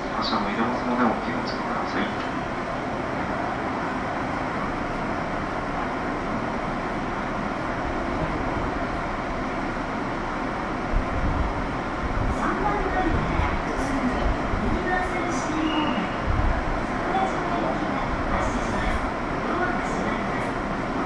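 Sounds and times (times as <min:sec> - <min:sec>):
train interior noise: 0:00.0 - 0:21.0.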